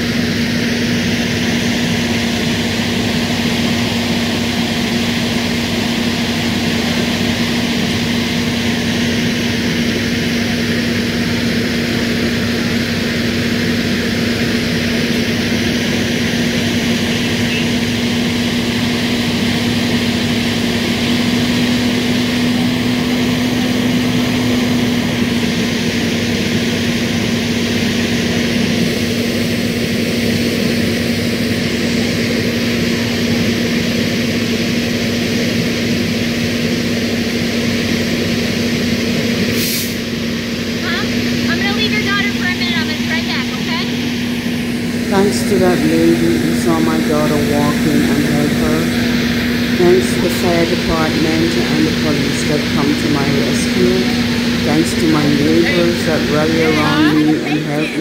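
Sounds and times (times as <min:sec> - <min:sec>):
low engine-like hum: 0:00.0 - 0:58.0.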